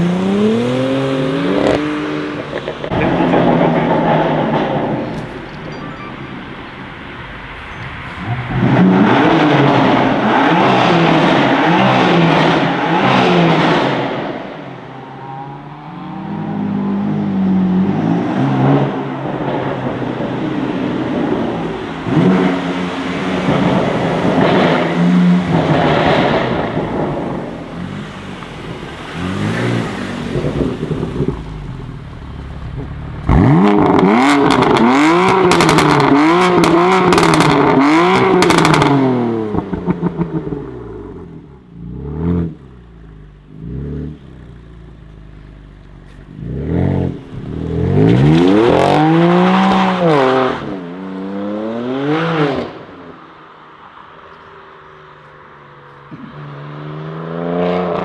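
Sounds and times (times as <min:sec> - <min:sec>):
exhaust crackles: 0:00.0 - 0:50.9
car engine revving: 0:00.0 - 0:53.2.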